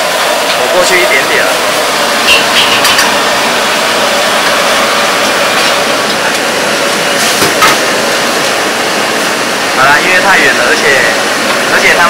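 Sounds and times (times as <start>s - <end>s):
busy kitchen rushing noise: 0.0s - 12.0s.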